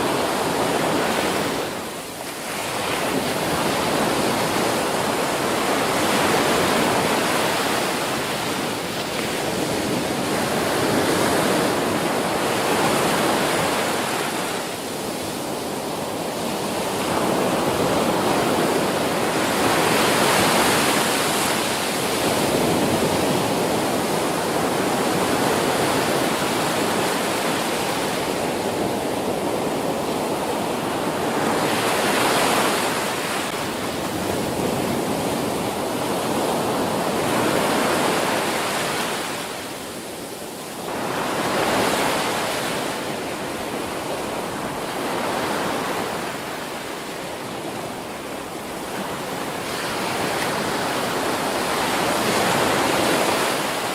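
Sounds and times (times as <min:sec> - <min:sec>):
ocean waves breaking on a beach: 0:00.0 - 0:53.9.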